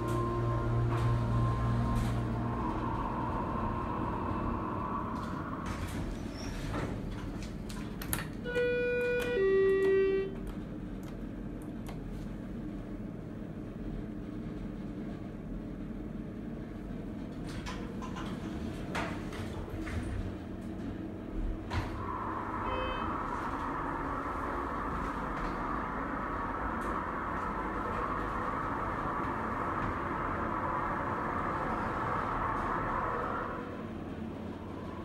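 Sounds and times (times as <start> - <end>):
elevator low rumble: 0.0 - 35.0.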